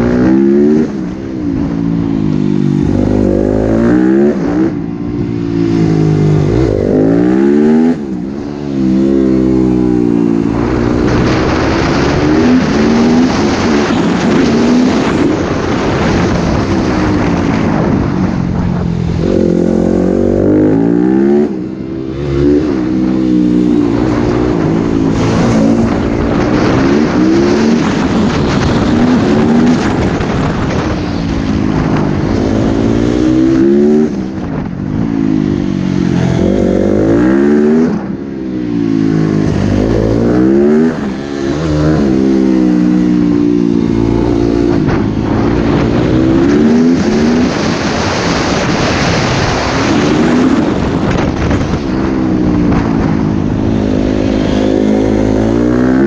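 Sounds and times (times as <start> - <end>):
motocross bike engine revving: 5.7 - 18.0, 19.1 - 56.0.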